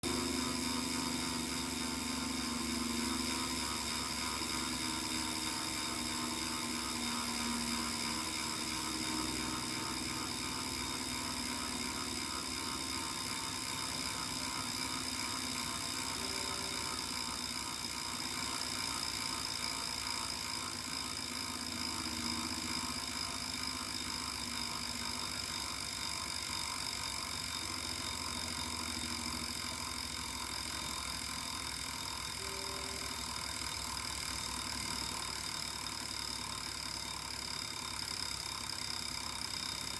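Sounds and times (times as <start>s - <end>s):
bike trainer mechanical whine: 0.0s - 39.9s.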